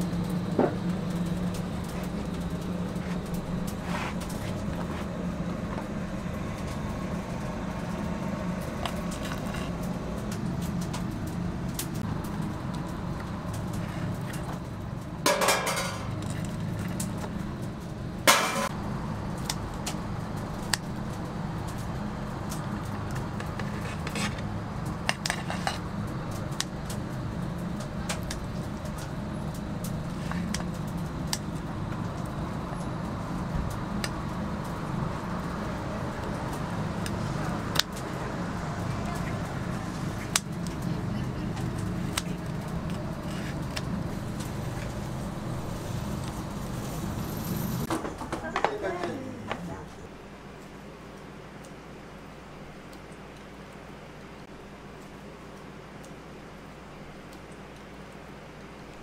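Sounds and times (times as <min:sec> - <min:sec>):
low background hum: 0:00.0 - 0:59.0.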